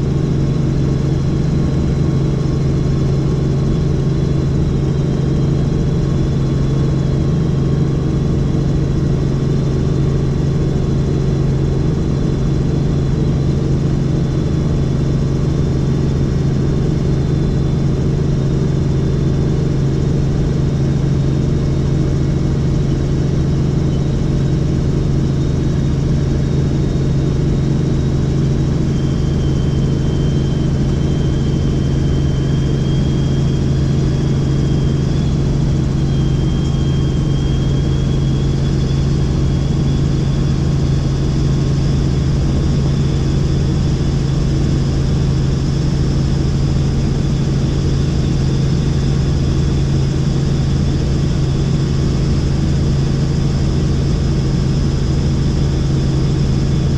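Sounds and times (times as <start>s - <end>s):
helicopter rotor drone: 0.0s - 56.9s.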